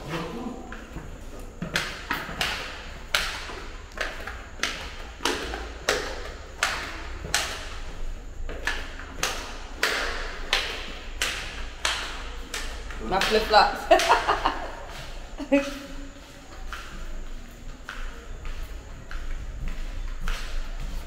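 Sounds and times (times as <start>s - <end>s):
flip-flops slapping on hard floor: 0.0s - 21.0s.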